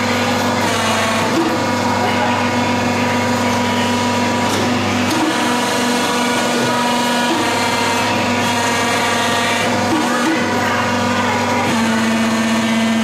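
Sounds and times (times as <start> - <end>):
electric motor whirring hum: 0.0 - 13.0.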